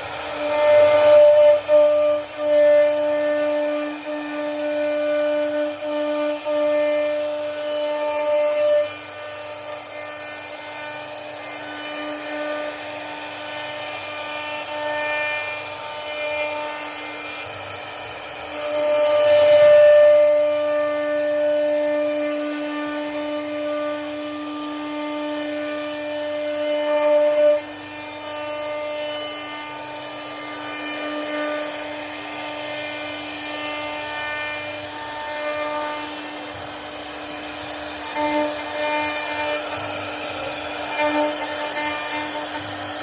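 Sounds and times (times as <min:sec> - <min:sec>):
router bit carving wood: 0:00.0 - 0:43.0
router spindle whine: 0:00.0 - 0:43.0.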